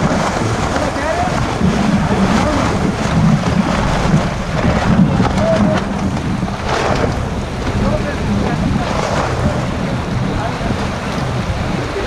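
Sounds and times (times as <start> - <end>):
water splashing along a hull: 0.0 - 12.0
wind buffeting microphone: 0.0 - 12.0.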